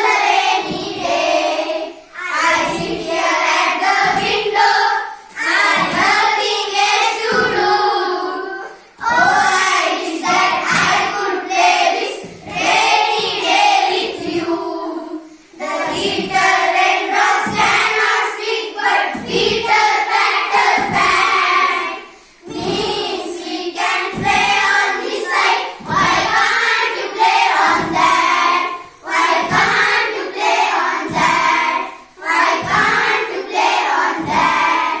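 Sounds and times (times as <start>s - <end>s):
young children singing together: 0.0s - 35.0s.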